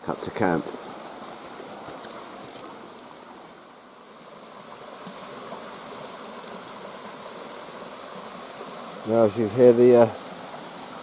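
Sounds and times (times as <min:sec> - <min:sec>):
creek rushing in flood: 0:00.0 - 0:11.0.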